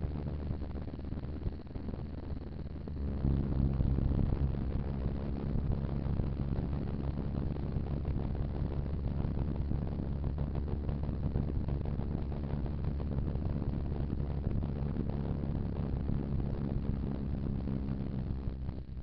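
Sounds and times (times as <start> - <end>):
motorcycle engine running: 3.0 - 19.0
wind and road noise: 3.2 - 19.0.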